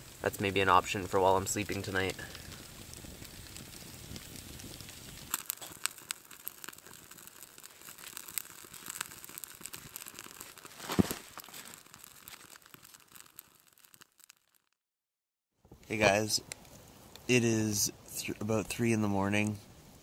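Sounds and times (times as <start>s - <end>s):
soft steady hiss: 0.0s - 13.5s, 15.6s - 20.0s
campfire crackling and popping: 0.0s - 14.8s, 15.7s - 20.0s.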